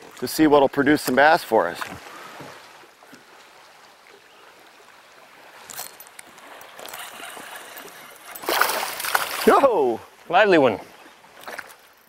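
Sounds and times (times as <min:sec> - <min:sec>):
water slapping against boat: 0:00.0 - 0:12.0.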